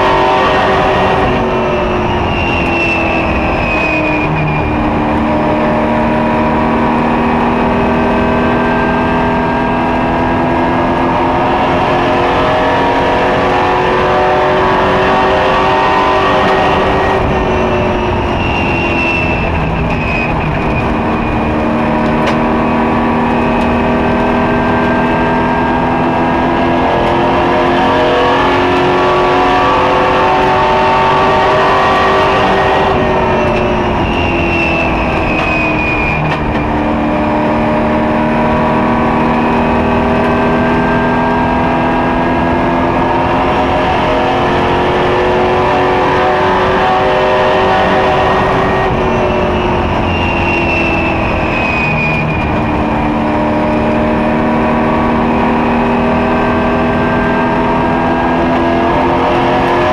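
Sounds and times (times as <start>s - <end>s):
racing truck engine: 0.0s - 59.9s
road noise: 0.0s - 59.9s.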